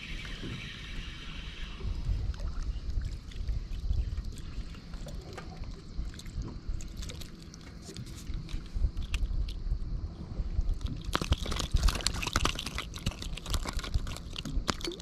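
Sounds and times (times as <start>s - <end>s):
low rumbling wind: 0.0s - 15.0s
water around a boat: 0.0s - 15.0s.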